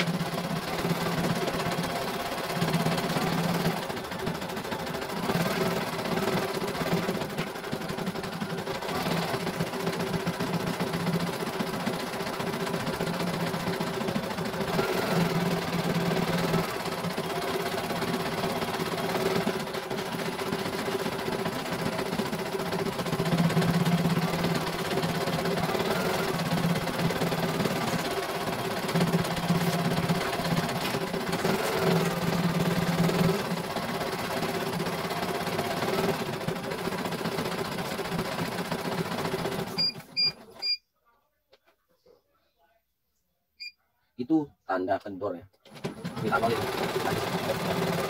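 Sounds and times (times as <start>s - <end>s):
machine motor hum: 0.0s - 39.8s
embroidery machine needle stitching: 0.0s - 40.7s, 45.6s - 48.0s.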